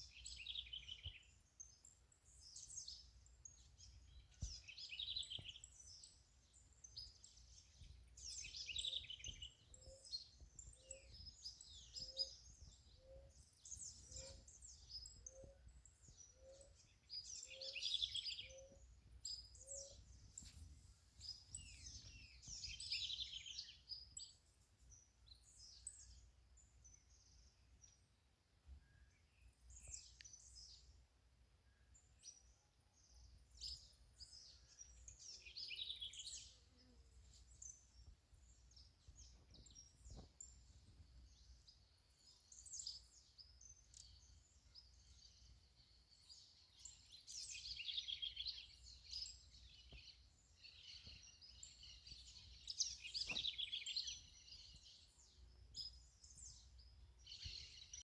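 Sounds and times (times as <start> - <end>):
small birds chirping: 0.0 - 31.0, 31.7 - 58.0.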